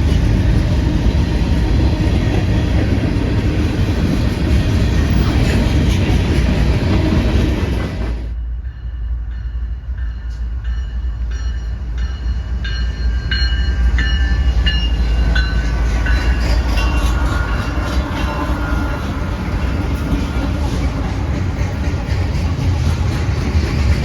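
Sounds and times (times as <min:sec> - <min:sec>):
train rolling past: 0:00.0 - 0:24.0.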